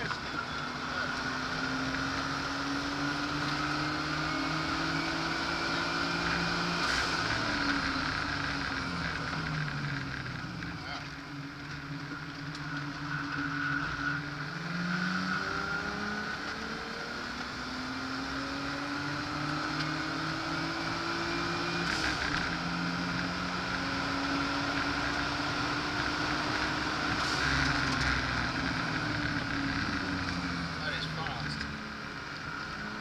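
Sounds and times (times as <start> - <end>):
car engine revving through gears: 0.0 - 33.0
road and wind noise: 0.0 - 33.0.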